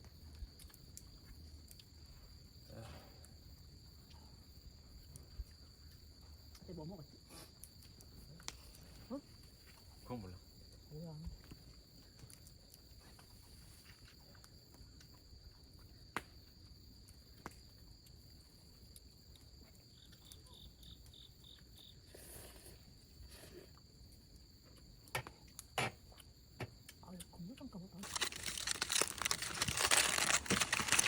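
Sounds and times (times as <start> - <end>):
crickets chirring: 0.0 - 31.0
insect chirps: 0.0 - 31.0.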